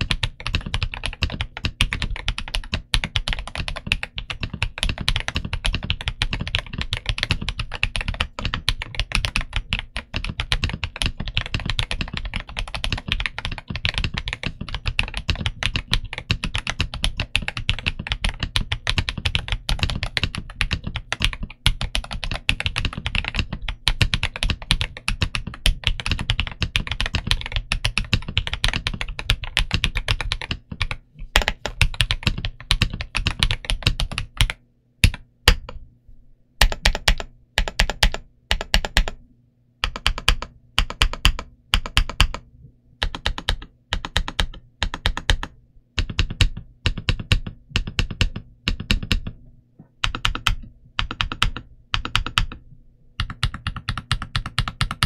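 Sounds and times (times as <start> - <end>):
mechanical keyboard typing: 0.0 - 35.8, 36.6 - 39.2, 39.8 - 49.4, 50.0 - 52.6, 53.2 - 55.0.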